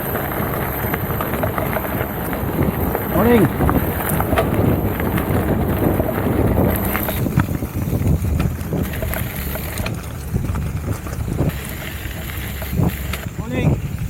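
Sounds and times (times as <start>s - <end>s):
bike rattling clicks and knocks: 0.0s - 14.0s
wind buffeting microphone: 0.0s - 14.0s.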